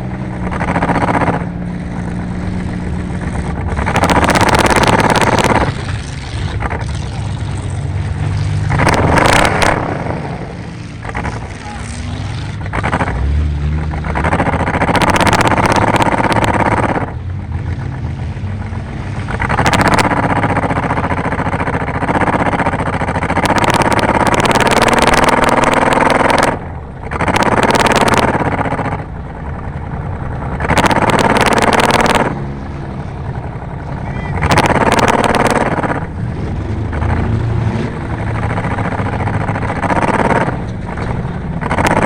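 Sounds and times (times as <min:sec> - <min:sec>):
car engines revving hard: 0:00.0 - 0:42.0.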